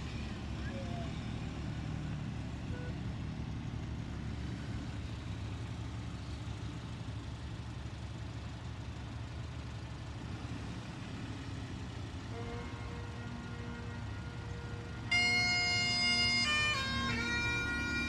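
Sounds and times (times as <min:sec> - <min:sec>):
car engines idling: 0:00.0 - 0:18.0.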